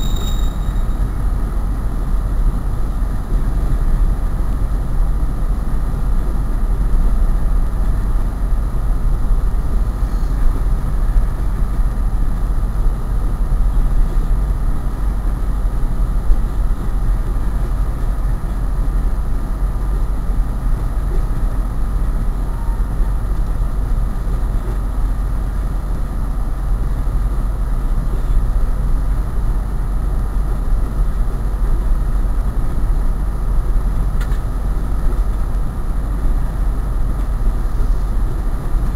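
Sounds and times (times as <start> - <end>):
diesel locomotive rumbling: 0.0 - 38.9.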